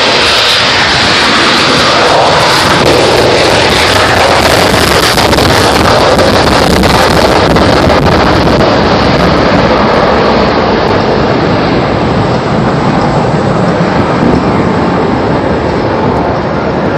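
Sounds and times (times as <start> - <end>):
jets flying over: 0.0 - 16.9.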